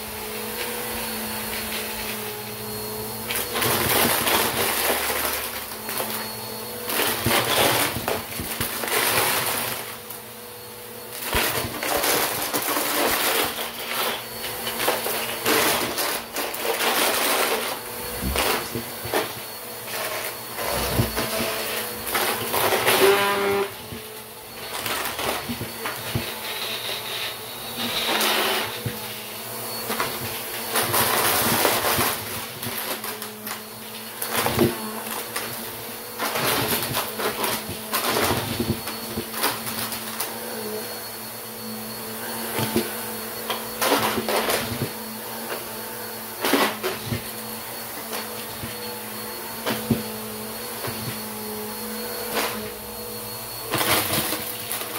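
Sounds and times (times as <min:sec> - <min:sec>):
vacuum cleaner motor humming: 0:00.0 - 0:54.9.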